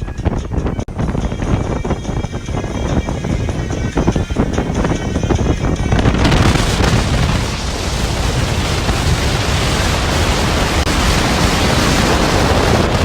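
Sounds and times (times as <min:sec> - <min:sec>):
wind and sea water rushing: 0:00.0 - 0:13.0.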